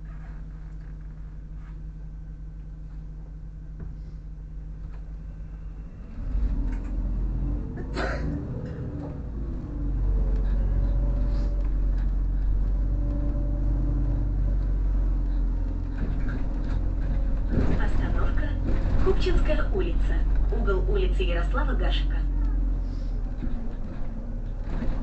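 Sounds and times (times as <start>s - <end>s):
bus engine from inside: 0.0s - 25.0s.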